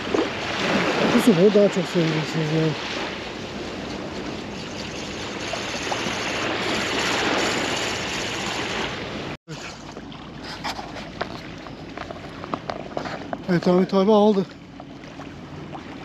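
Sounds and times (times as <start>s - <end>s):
waves washing onto shore: 0.0s - 16.0s.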